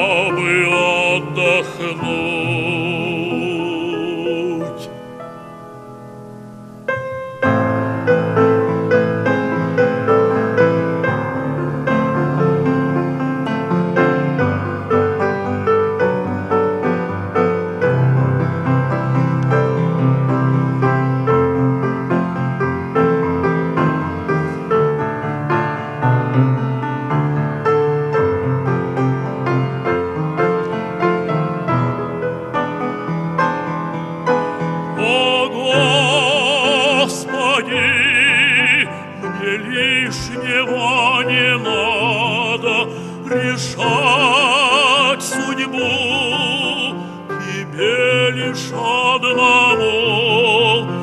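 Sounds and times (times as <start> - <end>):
piano chords: 0.0 - 51.0.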